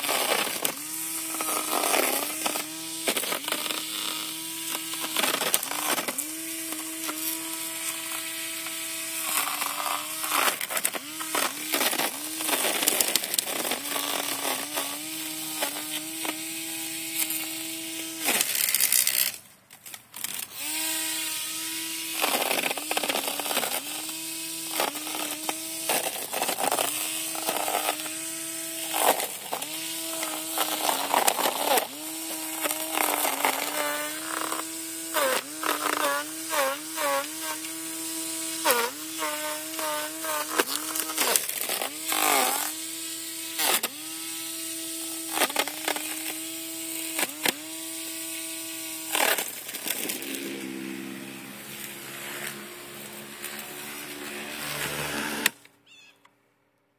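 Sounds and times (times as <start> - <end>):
grass trimmer motor whining: 0.0 - 55.9.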